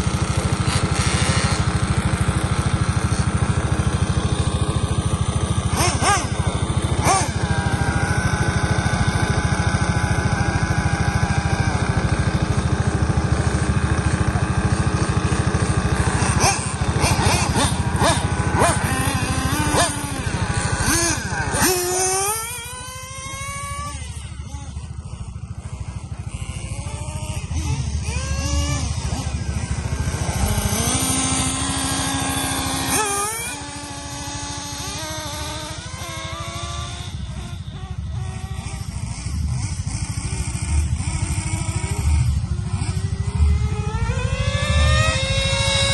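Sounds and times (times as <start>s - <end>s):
small model car engines whining: 0.0s - 45.9s.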